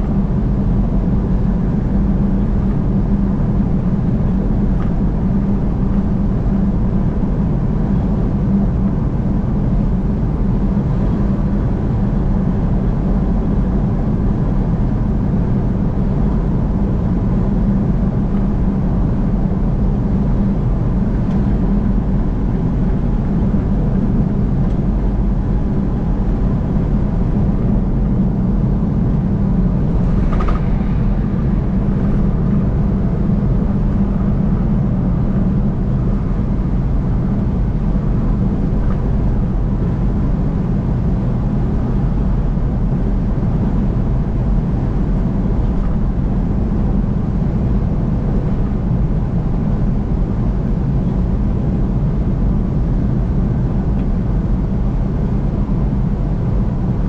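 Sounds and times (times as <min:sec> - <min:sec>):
car driving at highway speed: 0:00.0 - 0:57.0.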